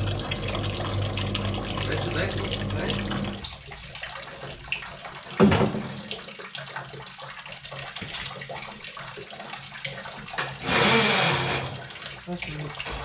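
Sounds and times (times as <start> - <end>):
waste water trickling into tub: 0.0 - 13.0.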